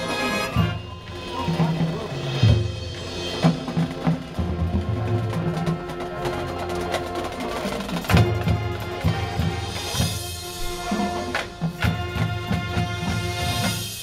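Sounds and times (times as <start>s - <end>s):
drum strikes: 0.0s - 14.0s
marching band playing: 0.0s - 14.0s.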